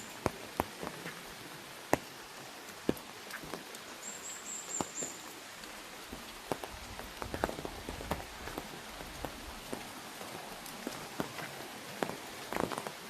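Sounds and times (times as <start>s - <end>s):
rain pattering on an umbrella: 0.0s - 13.0s.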